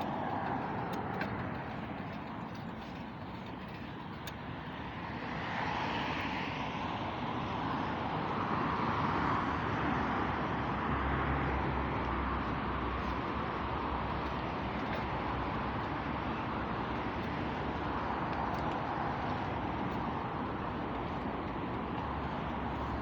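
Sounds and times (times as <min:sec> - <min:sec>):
traffic: 0:00.0 - 0:23.0.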